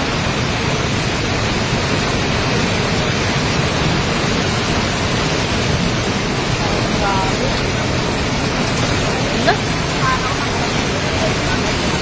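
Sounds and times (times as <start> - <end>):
heavy rain: 0.0 - 12.0
running water: 0.0 - 12.0.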